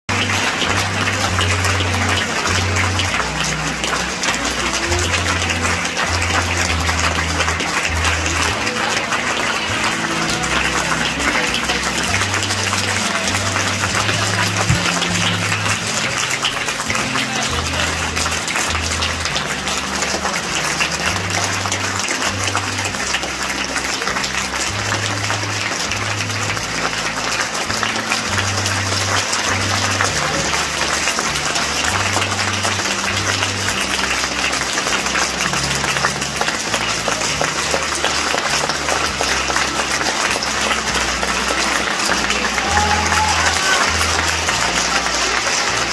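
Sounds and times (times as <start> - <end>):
audience applauding: 0.0 - 45.9.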